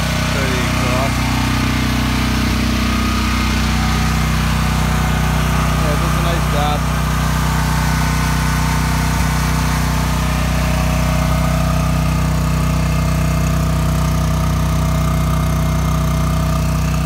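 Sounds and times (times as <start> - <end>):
exhaust fan running: 0.0 - 17.0
muffled generator engine running: 0.0 - 17.0.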